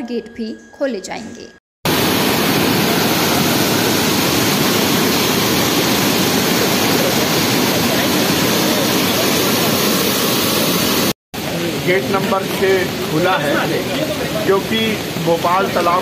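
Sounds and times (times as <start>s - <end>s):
water rushing down spillway: 1.9s - 16.0s.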